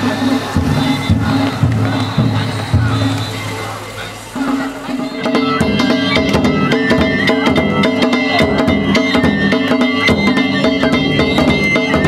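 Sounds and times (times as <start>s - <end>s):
high flute melody: 0.0s - 12.0s
ringing hand gongs: 0.0s - 12.0s
taiko drum beating fast: 0.0s - 12.0s.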